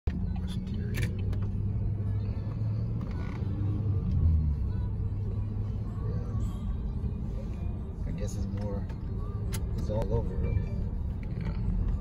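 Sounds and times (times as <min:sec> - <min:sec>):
car cabin road and engine rumble: 0:00.1 - 0:12.0.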